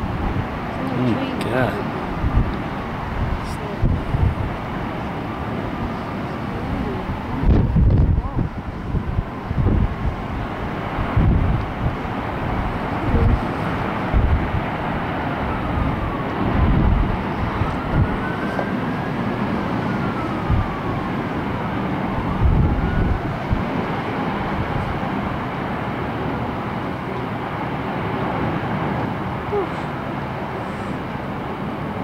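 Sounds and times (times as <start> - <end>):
distant emergency siren wailing: 0.0 - 32.0
wind buffeting microphone: 0.0 - 32.0.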